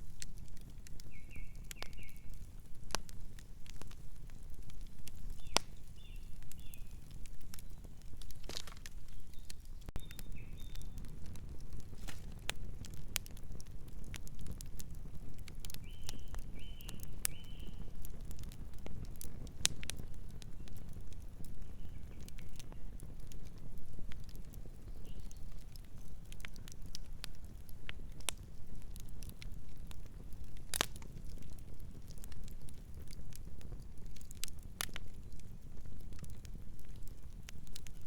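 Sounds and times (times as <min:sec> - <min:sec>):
campfire crackling and popping: 0:00.0 - 0:38.0
low rush of flame: 0:00.0 - 0:38.0.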